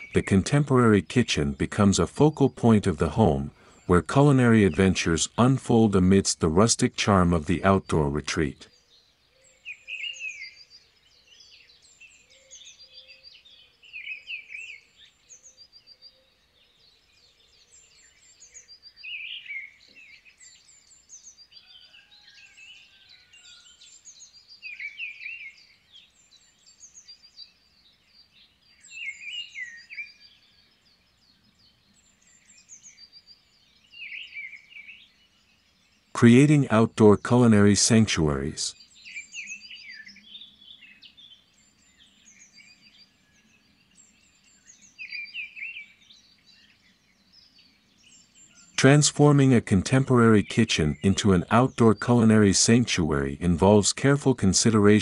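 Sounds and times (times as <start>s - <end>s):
birds chirping: 0.0s - 55.0s
loud bird song phrase: 0.0s - 55.0s.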